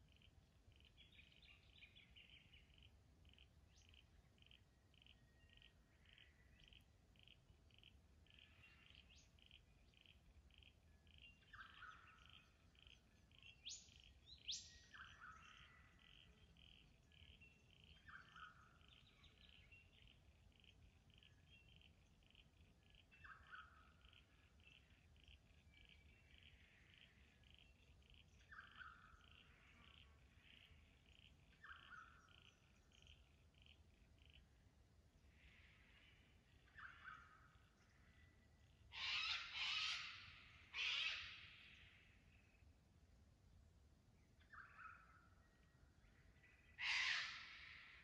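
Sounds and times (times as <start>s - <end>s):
bird calls: 0.0s - 34.6s, 35.4s - 42.6s, 44.2s - 48.0s.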